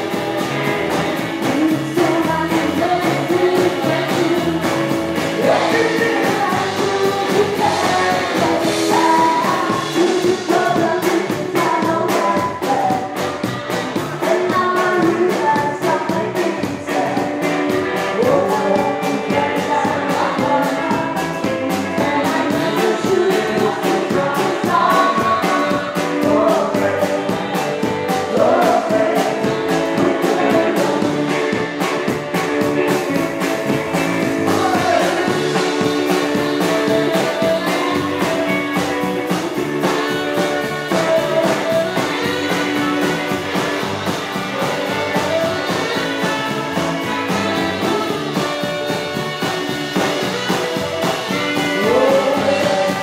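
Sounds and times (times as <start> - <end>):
fast drum beat: 0.0 - 53.0
person singing: 0.0 - 53.0
rockabilly band playing live: 0.0 - 53.0.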